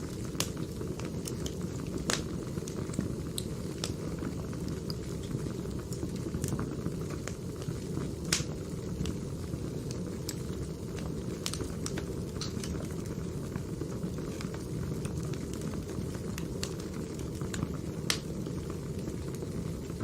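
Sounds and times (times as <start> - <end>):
firewood crackling: 0.0 - 20.0.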